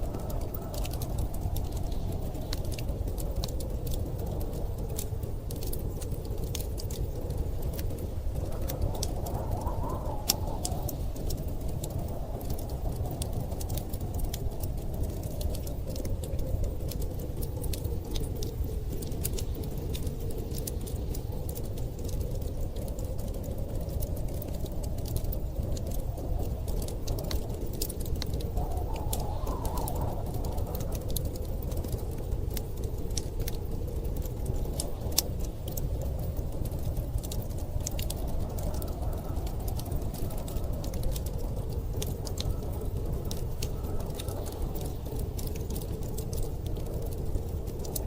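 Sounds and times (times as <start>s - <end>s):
storm wind howling: 0.0s - 48.0s
wood fire crackling and popping: 0.0s - 48.0s.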